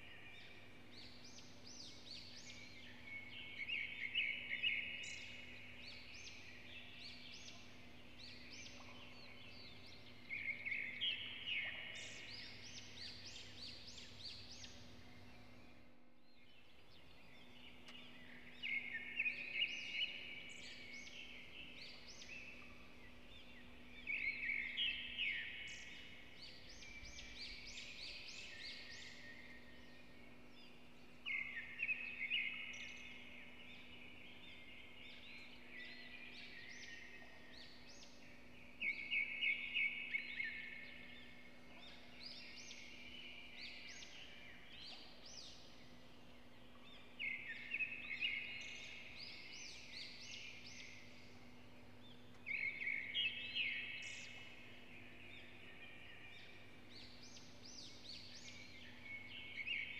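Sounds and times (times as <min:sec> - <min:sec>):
birds chirping: 0:00.0 - 0:59.9
faint steady hum: 0:00.0 - 0:59.9.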